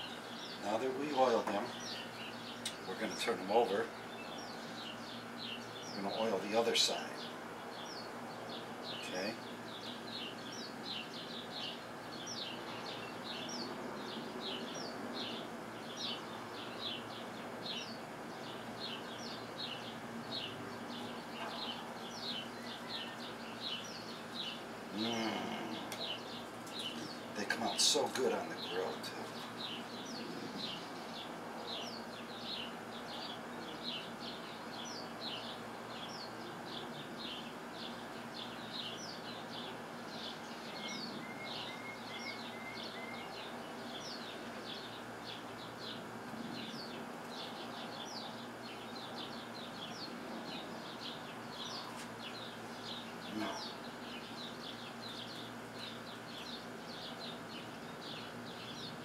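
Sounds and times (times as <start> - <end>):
background hiss: 0.0 - 59.0
small bird chirping: 0.0 - 59.0.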